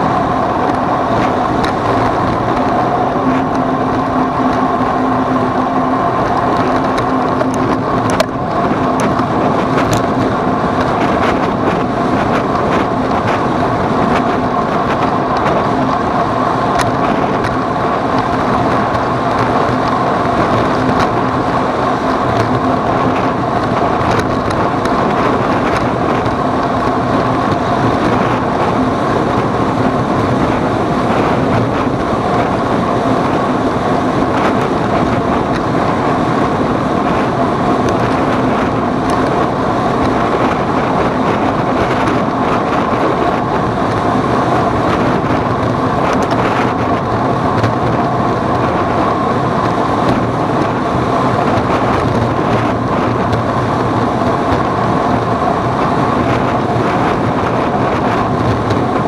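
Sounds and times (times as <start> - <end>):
constant rush of noise: 0.0 - 59.0
vehicle engine running steadily: 0.0 - 59.0.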